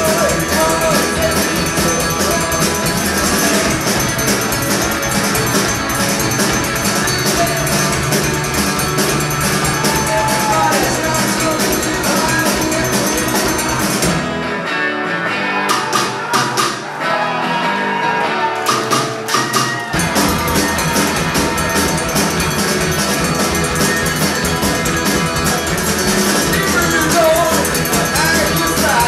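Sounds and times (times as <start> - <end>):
sharp percussion strikes: 0.0 - 14.2, 18.7 - 29.0
drum kit: 0.0 - 14.6, 15.6 - 17.0, 18.4 - 29.0
bass guitar: 0.0 - 29.0
electric guitars: 0.0 - 29.0.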